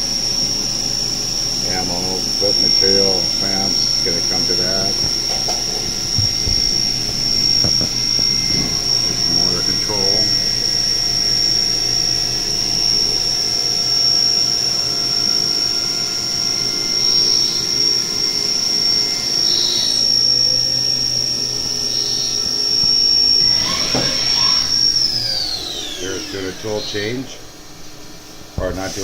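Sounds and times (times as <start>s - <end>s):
milling spindle high-pitched whine: 0.0s - 29.0s.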